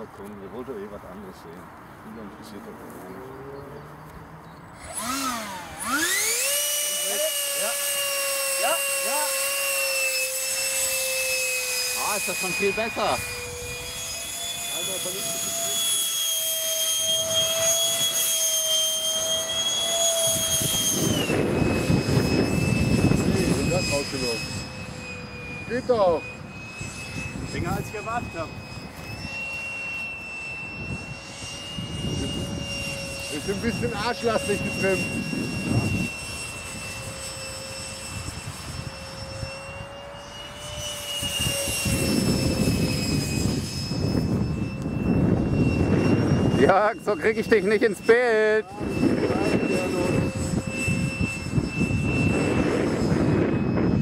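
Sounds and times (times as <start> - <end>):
model jet fan whine: 0.0 - 54.0.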